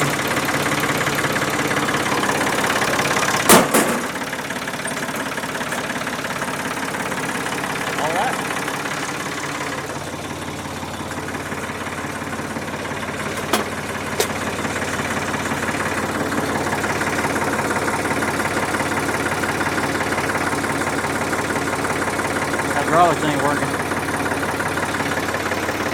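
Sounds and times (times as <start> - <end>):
tractor engine idling: 0.0 - 25.9.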